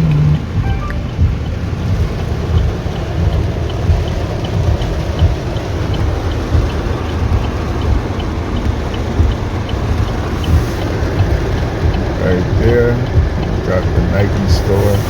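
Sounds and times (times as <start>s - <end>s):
faint regular ticking: 0.0s - 15.0s
heavy rain falling: 0.0s - 15.0s.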